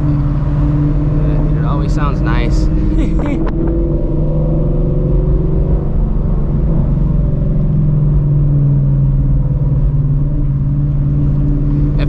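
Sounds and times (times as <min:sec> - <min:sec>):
low engine exhaust note: 0:00.0 - 0:12.0.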